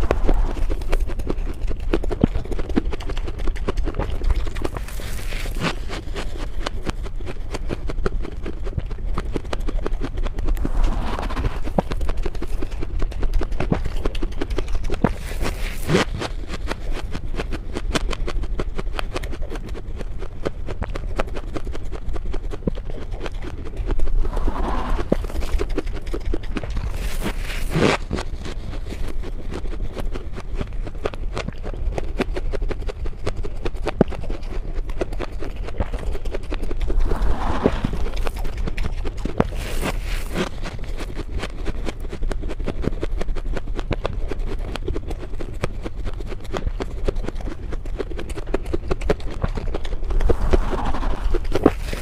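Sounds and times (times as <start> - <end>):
frost crunching: 0.0 - 17.8, 22.5 - 32.6, 34.2 - 42.2, 44.2 - 52.0
person chewing frost: 0.0 - 52.0.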